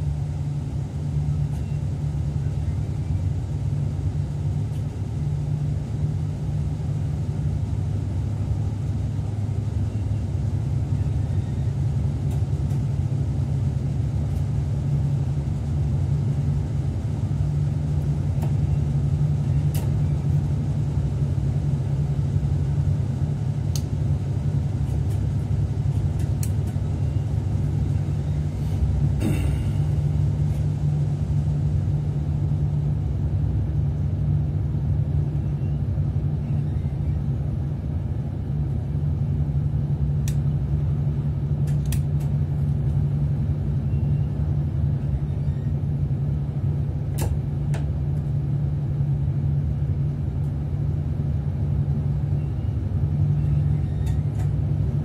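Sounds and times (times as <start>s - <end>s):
train hum and rumble: 0.0s - 55.0s.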